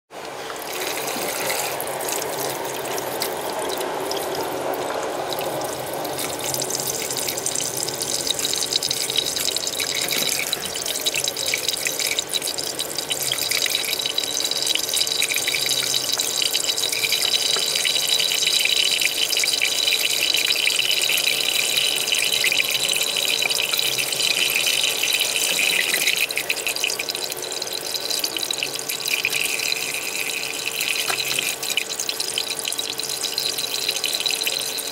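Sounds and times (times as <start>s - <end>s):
tap water running into bowl: 0.2s - 34.9s.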